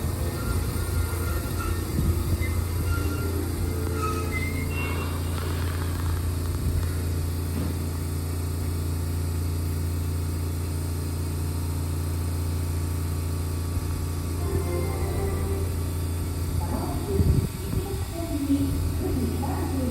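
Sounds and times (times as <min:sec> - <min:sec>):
electric train low hum: 0:00.0 - 0:19.9.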